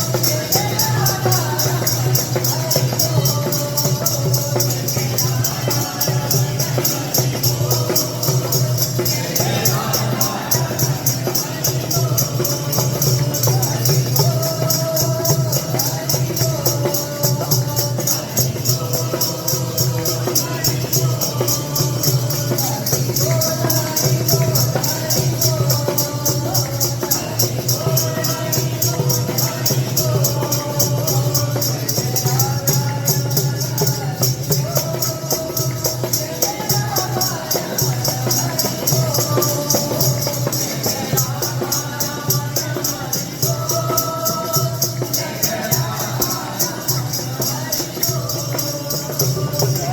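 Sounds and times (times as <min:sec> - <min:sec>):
jingling hand percussion: 0:00.0 - 0:49.9
voices singing devotional song: 0:00.0 - 0:49.9.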